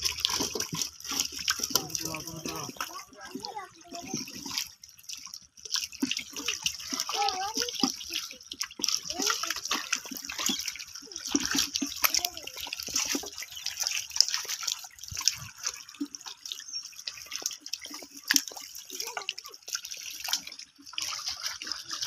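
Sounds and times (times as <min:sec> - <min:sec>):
footsteps splashing through water: 0:00.0 - 0:22.0
water drips: 0:00.0 - 0:22.0.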